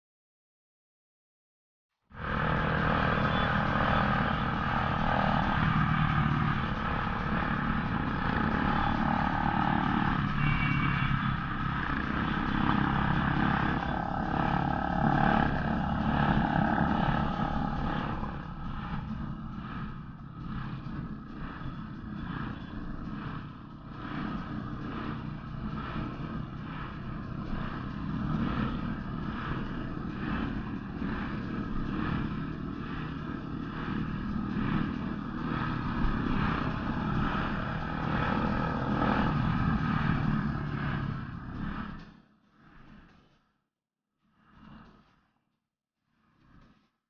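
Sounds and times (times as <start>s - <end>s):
wind rushing on microphone: 2.2s - 42.0s
motorcycle engine running: 2.2s - 42.1s.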